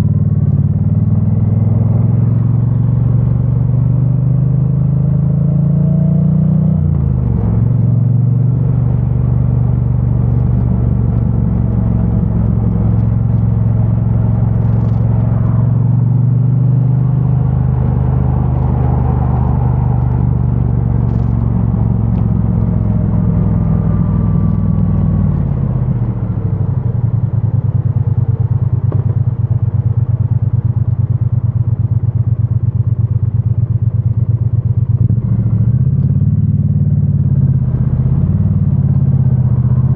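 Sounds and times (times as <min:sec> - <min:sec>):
motorcycle engine running: 0:06.8 - 0:39.9.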